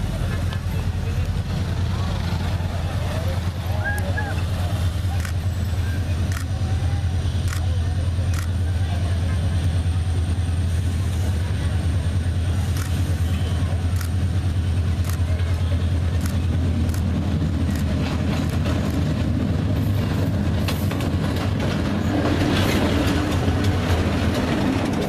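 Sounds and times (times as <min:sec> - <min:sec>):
diesel locomotive engine drone: 0:00.0 - 0:25.0
rail clicks: 0:00.0 - 0:25.0
train wheels rumbling and clattering: 0:00.0 - 0:25.0.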